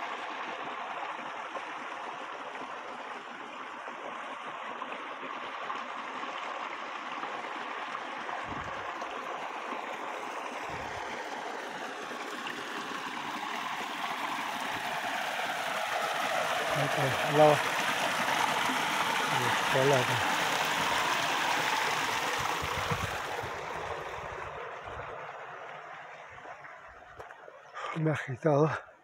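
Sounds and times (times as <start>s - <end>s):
water rushing and gurgling: 0.0s - 29.0s.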